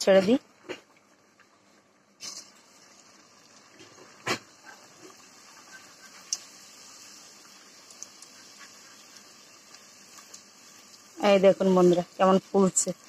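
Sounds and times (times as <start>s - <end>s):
bread sizzling in hot oil: 0.0s - 13.0s.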